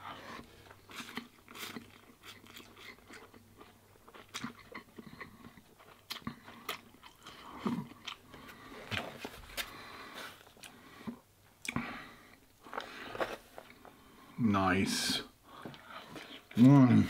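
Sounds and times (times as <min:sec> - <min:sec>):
man chewing noodles: 0:00.0 - 0:14.3.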